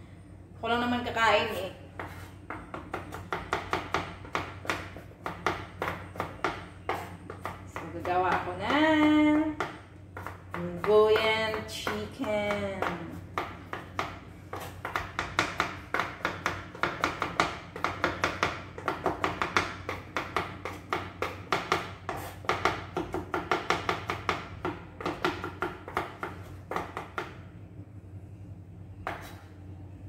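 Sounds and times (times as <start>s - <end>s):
knife chopping on cutting board: 2.0s - 27.4s, 29.0s - 29.5s.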